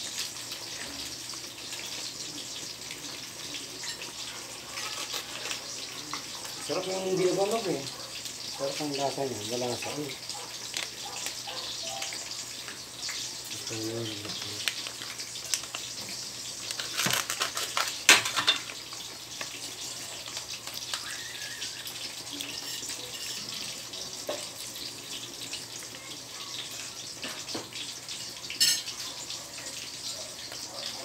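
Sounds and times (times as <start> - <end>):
food sizzling and bubbling in wok: 0.0 - 31.0.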